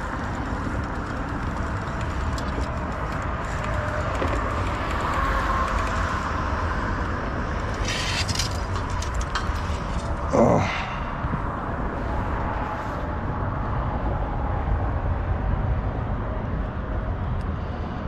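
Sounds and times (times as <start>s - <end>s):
traffic rumble: 0.0s - 18.0s
wind on microphone: 0.0s - 18.0s.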